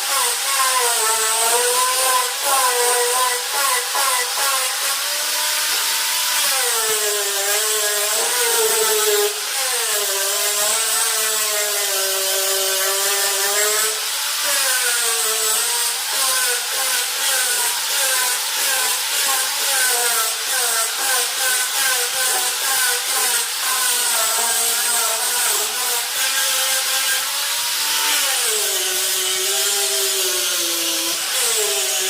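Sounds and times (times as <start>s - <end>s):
power tool cutting wood: 0.0s - 32.0s.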